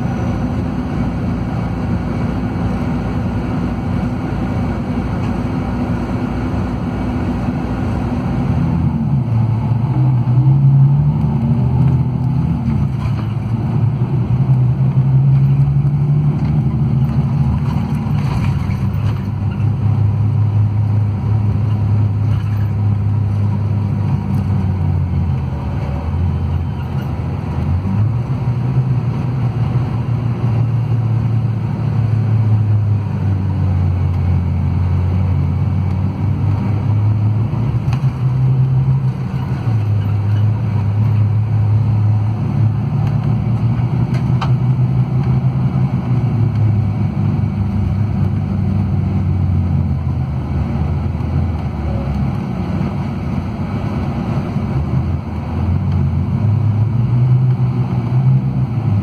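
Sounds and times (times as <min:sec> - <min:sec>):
diesel engine from inside a coach: 0:00.0 - 0:59.0
road noise: 0:00.0 - 0:59.0.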